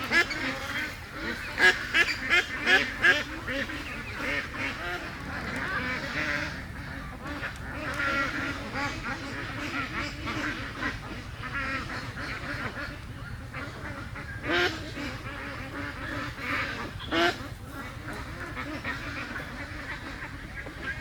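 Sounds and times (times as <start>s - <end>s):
ducks quacking: 0.0s - 21.0s
steady low rumble: 0.0s - 21.0s.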